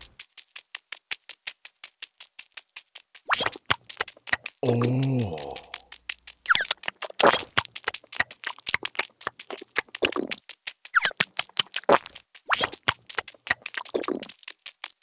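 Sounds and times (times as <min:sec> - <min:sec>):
rapid light clicking: 0:00.0 - 0:04.6, 0:05.6 - 0:15.0.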